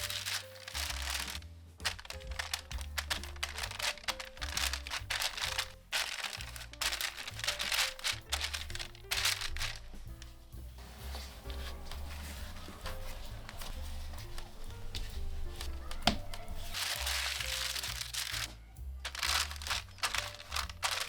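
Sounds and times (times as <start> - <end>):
food packaging crinkling: 0.0 - 10.3, 11.1 - 21.0
background music with bass line: 0.0 - 21.0.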